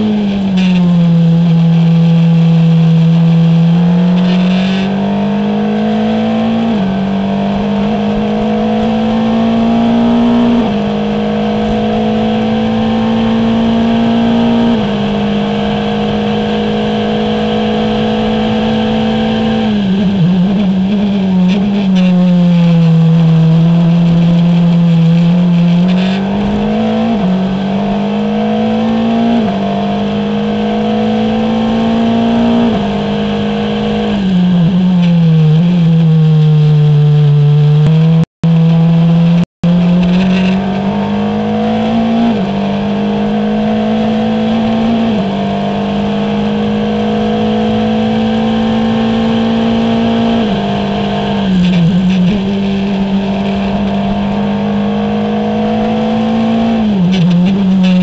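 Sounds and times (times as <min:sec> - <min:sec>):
racing car engine revving and shifting: 0:00.0 - 0:58.0.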